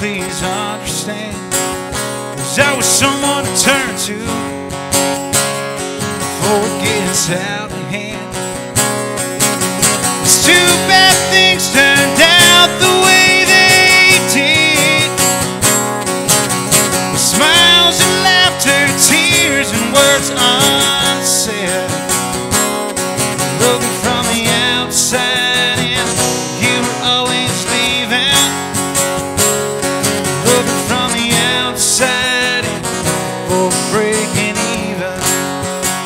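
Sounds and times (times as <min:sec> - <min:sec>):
acoustic guitar country song: 0:00.0 - 0:36.0.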